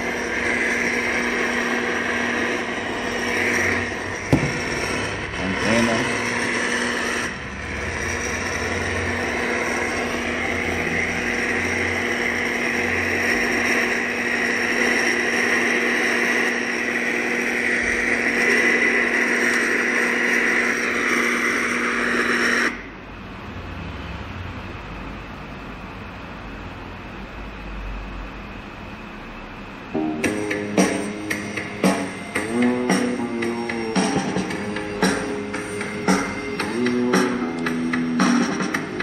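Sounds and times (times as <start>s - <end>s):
fan hiss: 0.0s - 39.0s
steady electrical hum: 0.0s - 39.0s.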